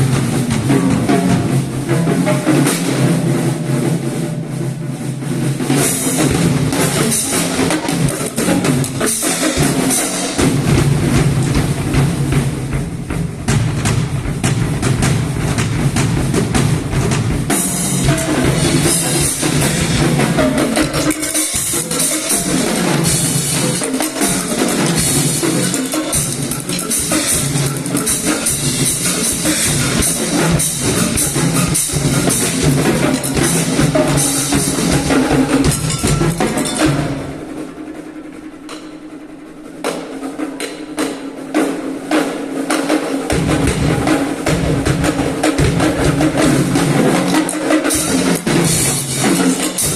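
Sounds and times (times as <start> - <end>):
fast drum strokes: 0.0 - 49.9.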